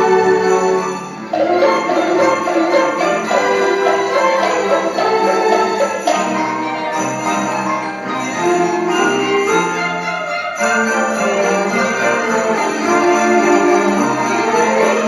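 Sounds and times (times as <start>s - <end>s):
orchestra playing: 0.0s - 15.0s
sleigh bells jingling: 0.0s - 15.0s.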